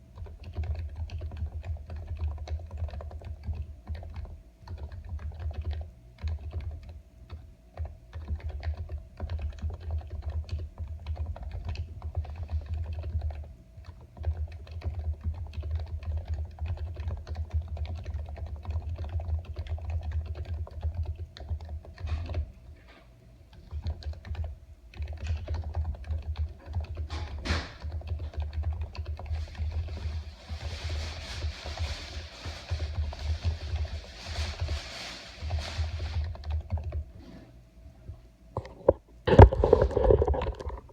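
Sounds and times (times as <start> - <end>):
computer keyboard typing: 0.1 - 22.5, 23.5 - 37.1.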